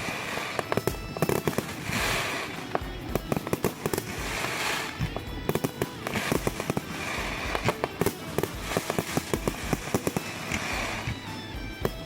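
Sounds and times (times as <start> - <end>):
background music: 0.0 - 12.0
fireworks bangs: 0.0 - 12.0
fireworks crackling: 0.0 - 12.0.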